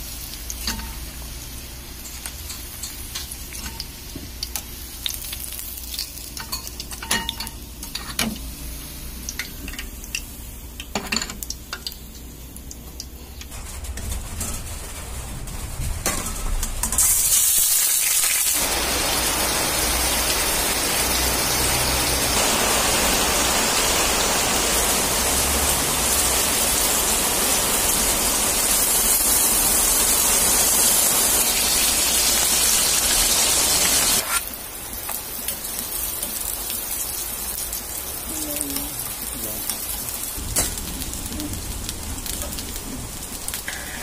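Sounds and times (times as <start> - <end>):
meat sizzling in a frying pan: 0.0 - 12.8, 16.8 - 44.0.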